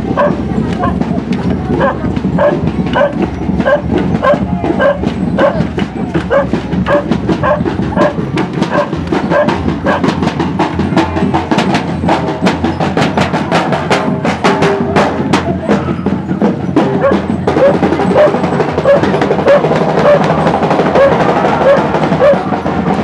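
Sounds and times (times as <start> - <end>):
procession drums beating: 0.0 - 23.0.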